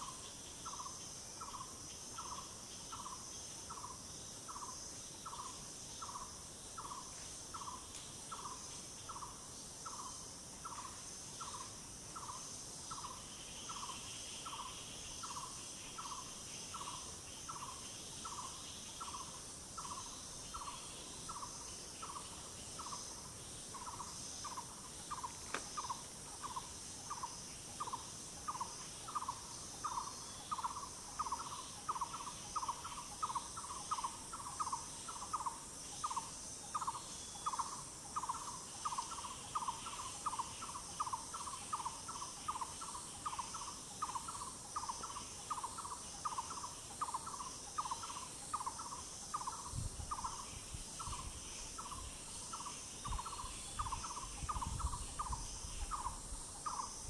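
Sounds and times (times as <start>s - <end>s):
forest insects droning: 0.0s - 57.0s.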